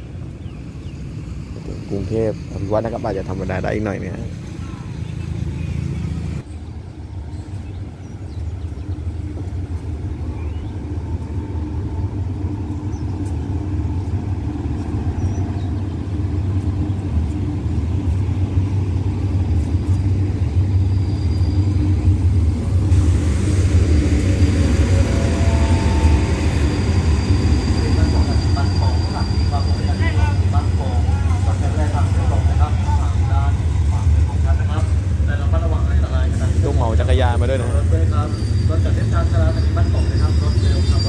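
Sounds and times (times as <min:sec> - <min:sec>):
diesel locomotive engine rumble: 0:00.0 - 0:41.0
wheel and rail noise: 0:00.0 - 0:41.0.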